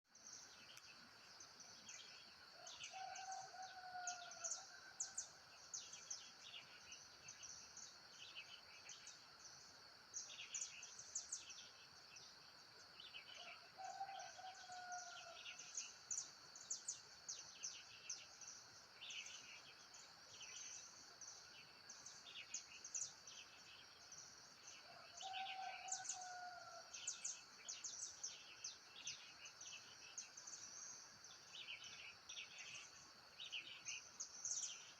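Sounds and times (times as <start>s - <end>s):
insect drone: 0.1s - 34.9s.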